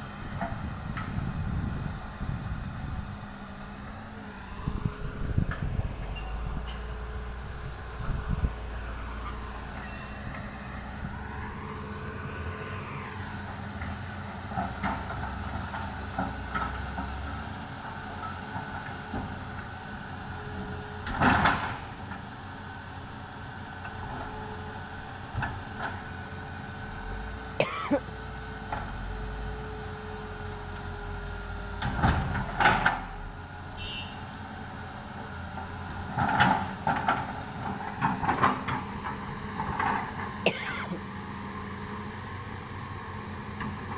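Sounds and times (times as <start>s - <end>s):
excavator running: 0.0s - 43.9s.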